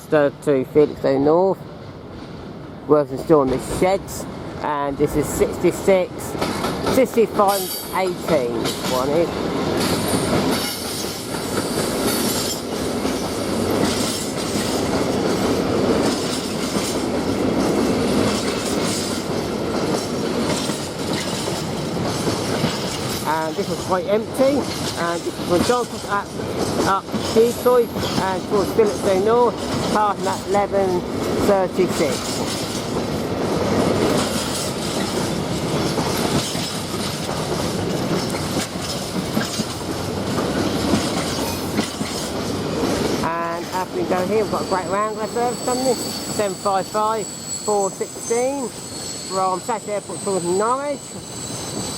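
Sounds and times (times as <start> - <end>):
freight wagons rumbling on rails: 0.1 - 51.9.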